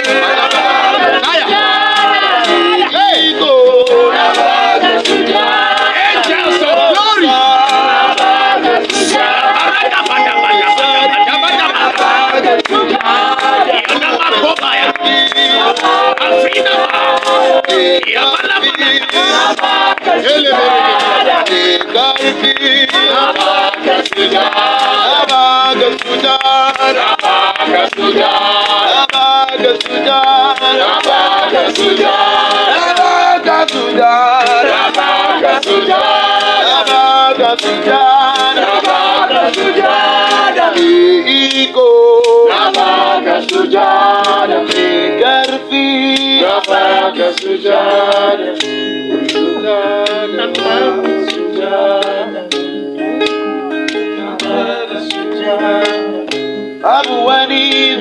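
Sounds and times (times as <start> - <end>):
group singing gospel chant: 0.0 - 58.0.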